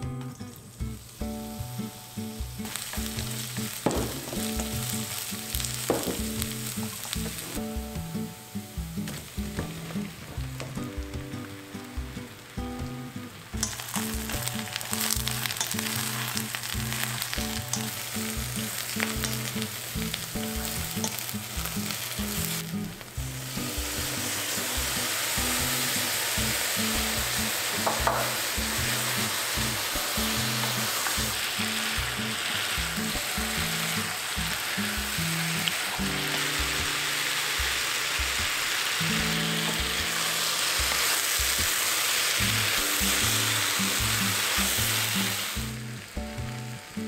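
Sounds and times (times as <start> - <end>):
eggplant sizzling in a wok: 0.0 - 47.0
soft background music: 0.0 - 47.0
oil popping: 2.4 - 46.5.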